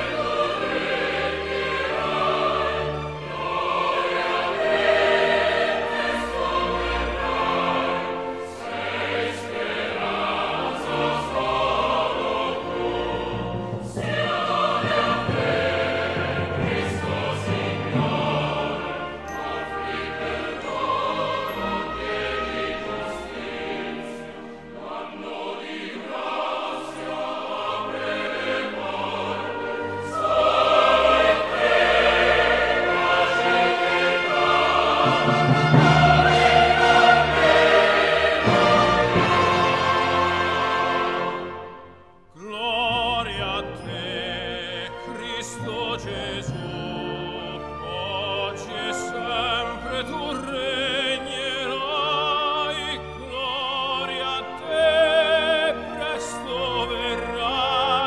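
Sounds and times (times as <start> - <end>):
choir singing: 0.0 - 58.0
orchestral accompaniment: 0.0 - 58.0.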